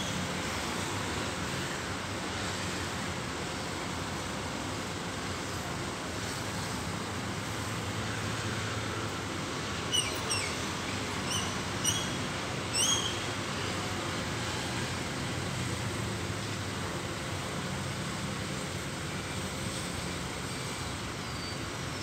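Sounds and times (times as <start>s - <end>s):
outdoor background hum: 0.0s - 22.0s.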